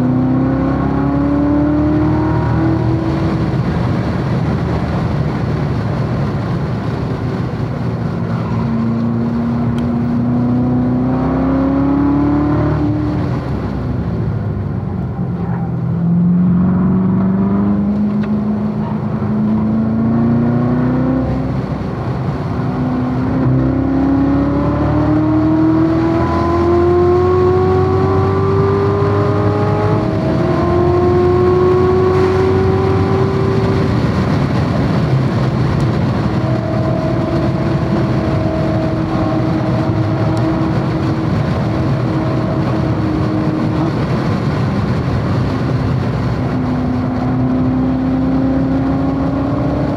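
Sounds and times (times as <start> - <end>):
car engine under hard acceleration: 0.0 - 49.9
wind and tyre noise: 0.0 - 49.9.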